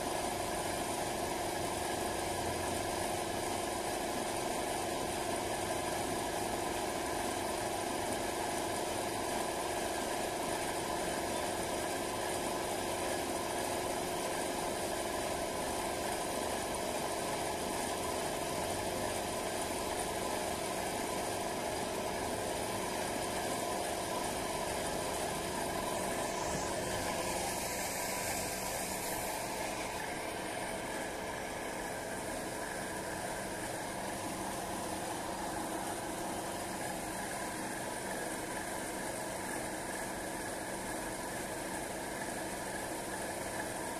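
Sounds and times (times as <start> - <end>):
air compressor running: 0.0 - 43.9.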